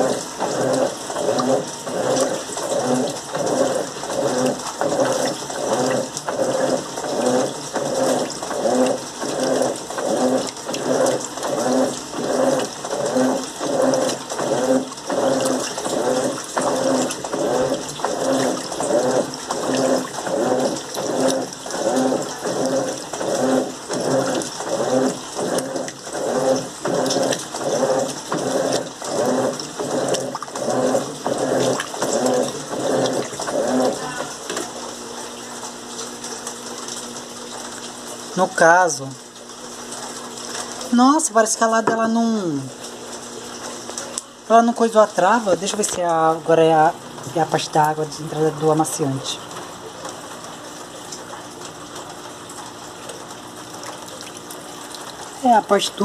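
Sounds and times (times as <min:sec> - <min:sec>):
washing machine agitator sloshing: 0:00.0 - 0:56.0.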